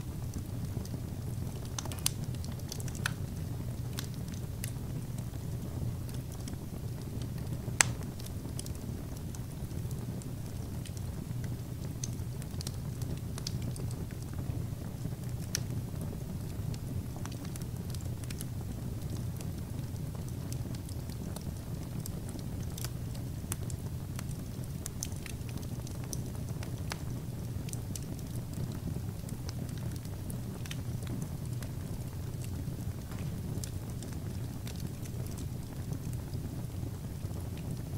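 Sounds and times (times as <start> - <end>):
fire crackles: 0.0 - 37.9
fire rumbling in fireplace: 0.0 - 37.9.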